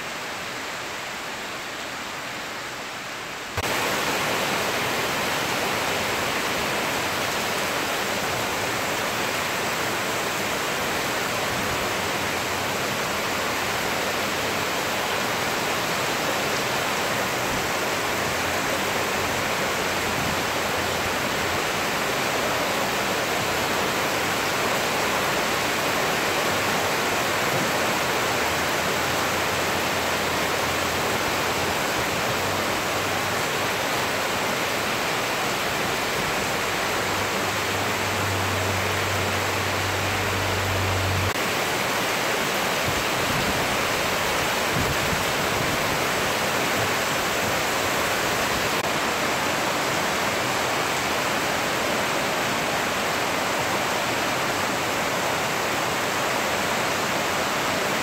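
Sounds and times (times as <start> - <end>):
steady rain on street and rooftops: 0.0 - 58.0.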